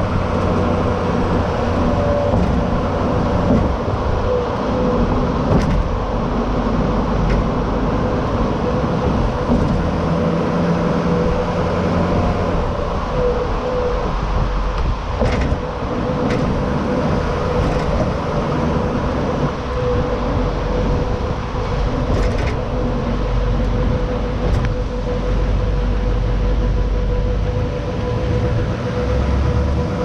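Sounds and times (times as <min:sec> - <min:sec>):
diesel engine rumble: 0:00.0 - 0:30.0
thin engine whine: 0:00.0 - 0:30.0.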